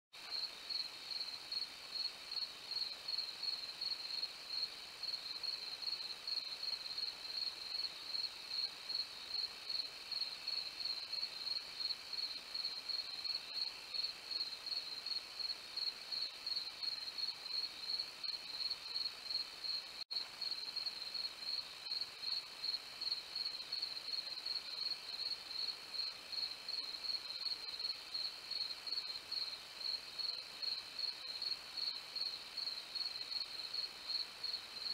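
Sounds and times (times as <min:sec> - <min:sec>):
crickets chirping: 0:00.2 - 0:34.9
low insect chorus: 0:00.2 - 0:34.9.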